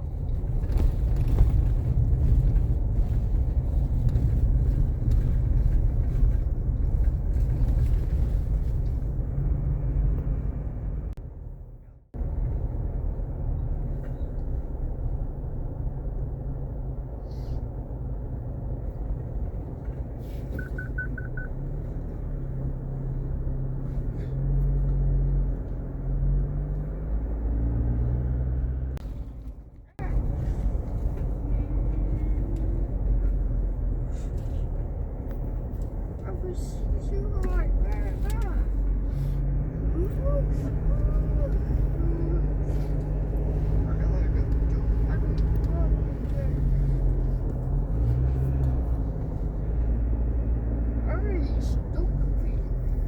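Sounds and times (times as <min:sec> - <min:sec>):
motor vehicle rumbling: 0:00.0 - 0:53.0.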